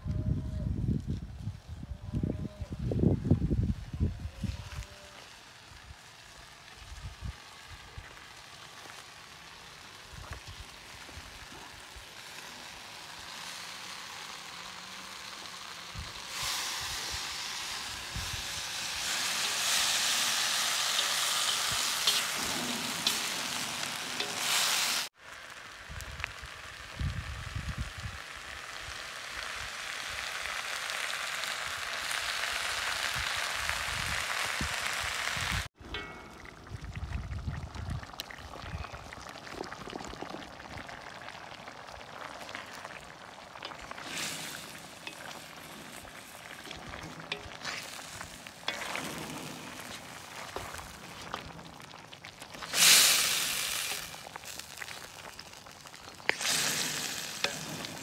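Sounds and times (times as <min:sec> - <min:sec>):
meat sizzling in a wok: 0:04.4 - 0:36.1, 0:40.2 - 0:58.0.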